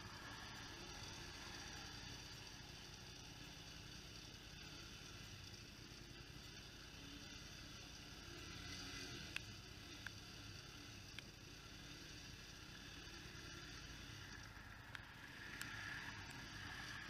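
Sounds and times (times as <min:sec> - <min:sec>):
faint hum of atv engines: 0:00.0 - 0:17.0.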